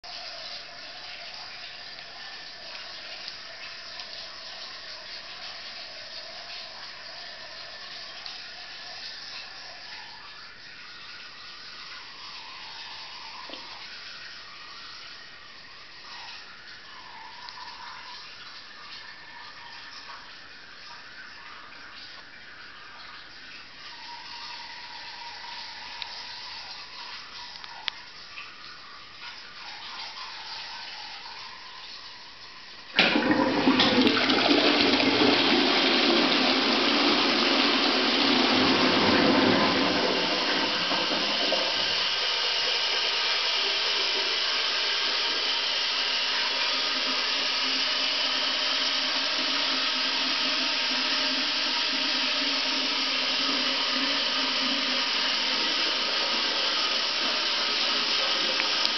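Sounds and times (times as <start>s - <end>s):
toilet flushing: 0.0s - 58.9s
water running: 0.0s - 58.9s.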